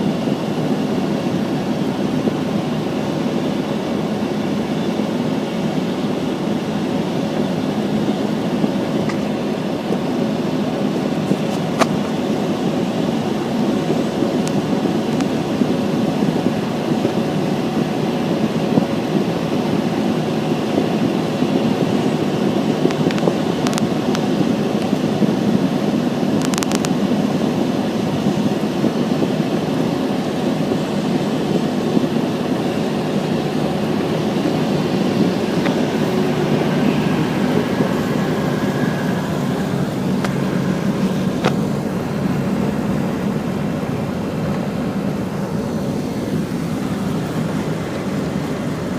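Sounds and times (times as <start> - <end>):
car driving rumble: 0.0 - 48.9.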